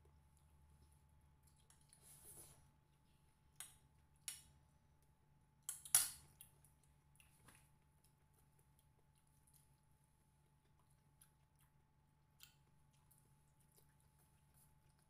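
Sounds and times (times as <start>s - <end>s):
fingers picking at food on plates: 0.3s - 15.0s.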